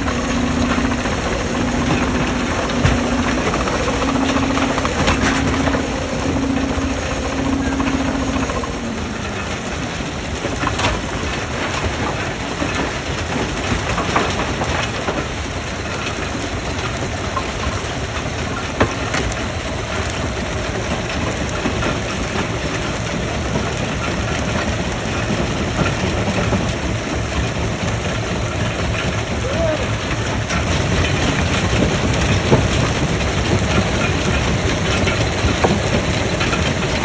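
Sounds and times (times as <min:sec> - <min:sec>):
stone crusher low rumble: 0:00.0 - 0:37.0.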